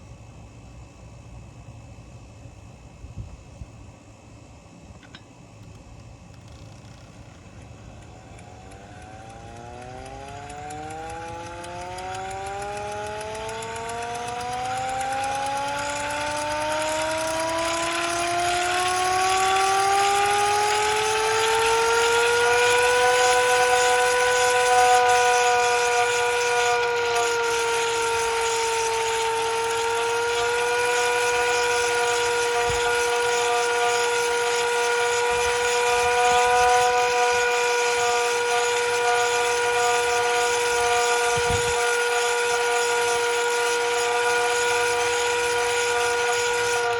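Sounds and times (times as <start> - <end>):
hand-crank siren wailing: 6.4 - 46.9.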